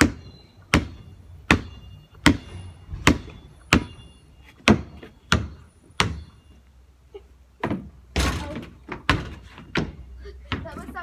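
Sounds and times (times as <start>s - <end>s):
basketball bouncing: 0.0s - 6.4s, 7.6s - 10.9s.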